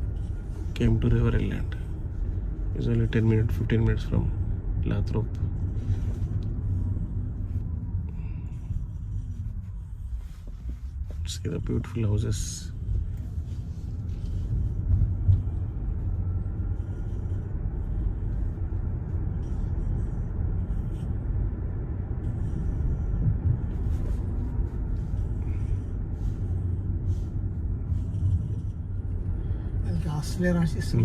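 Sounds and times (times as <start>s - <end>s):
road and tyre noise in car: 0.0s - 31.0s.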